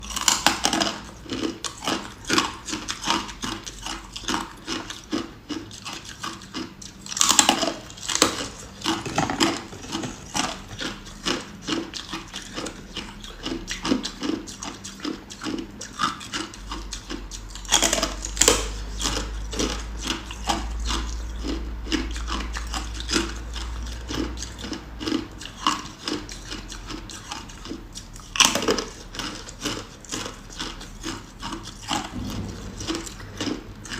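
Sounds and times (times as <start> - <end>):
ice being crunched and chewed: 0.0 - 33.9.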